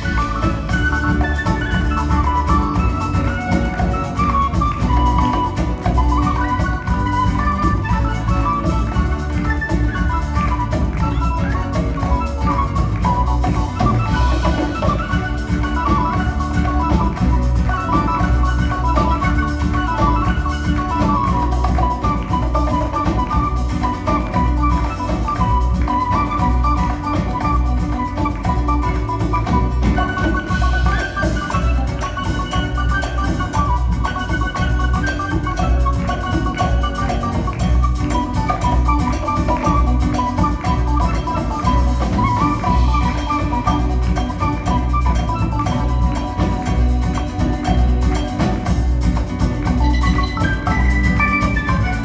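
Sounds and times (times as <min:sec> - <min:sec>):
instrumental band music: 0:00.0 - 0:52.0.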